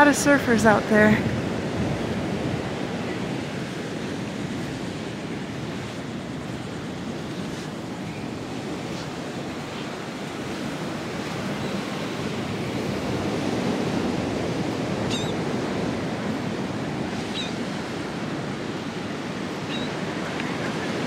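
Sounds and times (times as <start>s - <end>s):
surf breaking on beach: 0.0s - 21.0s
wind on microphone: 0.0s - 21.0s.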